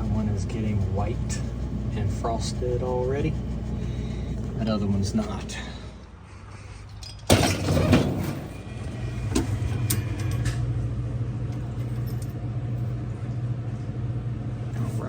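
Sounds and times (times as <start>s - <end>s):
refrigerator compressor humming: 0.0s - 6.7s, 7.3s - 15.0s.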